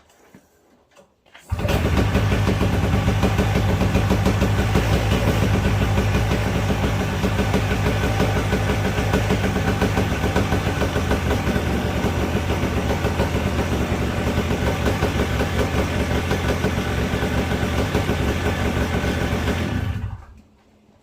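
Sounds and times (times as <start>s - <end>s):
two-stroke paramotor engine running: 1.5s - 20.2s.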